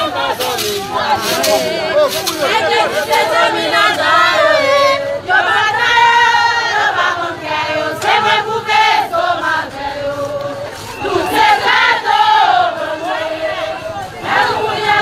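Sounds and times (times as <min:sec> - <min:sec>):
crowd singing in chorus: 0:00.0 - 0:15.0.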